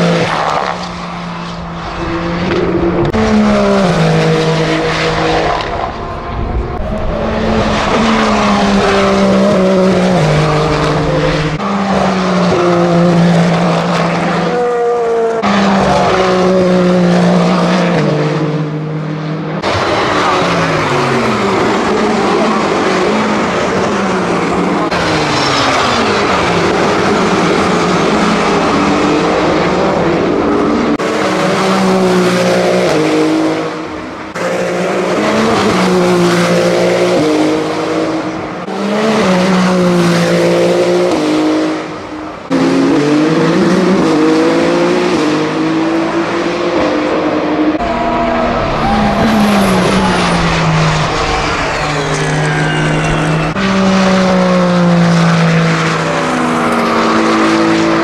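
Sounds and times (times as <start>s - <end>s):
racing car engine passing: 0.0s - 58.0s.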